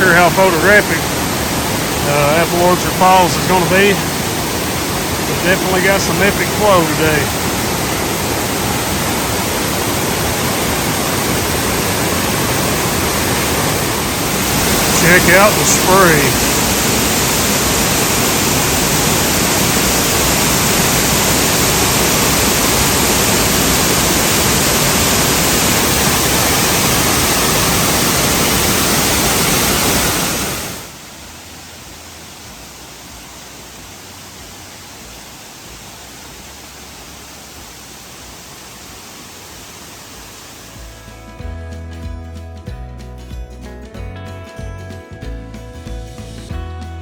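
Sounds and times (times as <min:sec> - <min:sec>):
waterfall rushing: 0:00.0 - 0:41.4.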